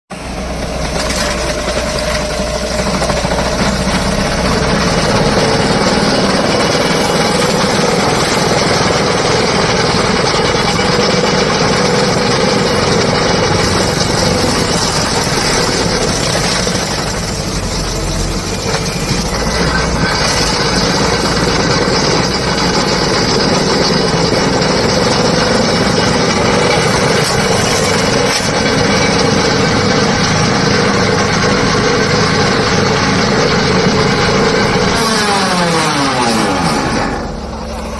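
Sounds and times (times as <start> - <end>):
cutting attachment working: 0.1 - 37.9
loader engine running: 0.1 - 37.9.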